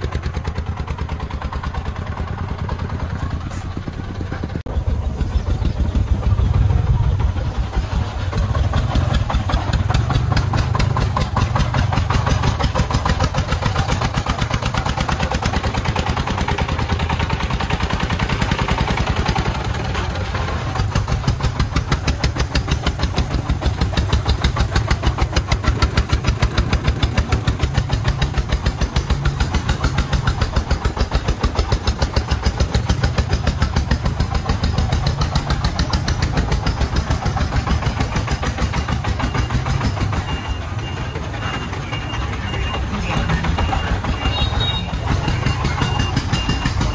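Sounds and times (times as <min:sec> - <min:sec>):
diesel engine chugging: 0:00.0 - 0:46.9.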